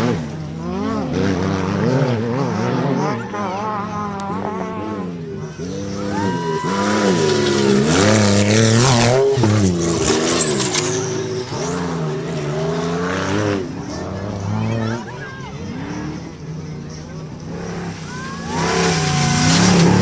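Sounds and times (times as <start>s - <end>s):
truck engine revving: 0.0s - 20.0s
tyre and dirt noise: 0.0s - 20.0s.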